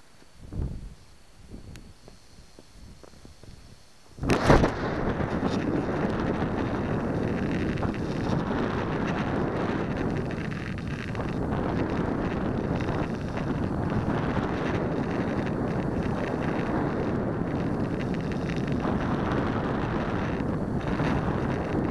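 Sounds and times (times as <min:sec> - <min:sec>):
wind rushing over camera: 0:00.0 - 0:21.9.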